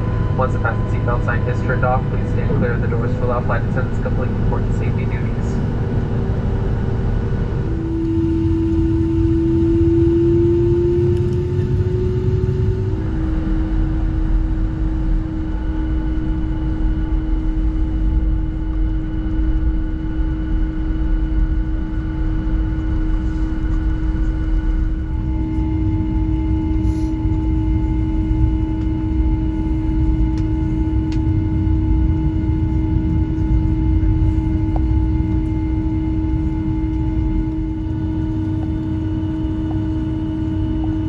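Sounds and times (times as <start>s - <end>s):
airplane engine rumble in cabin: 0.0s - 41.0s.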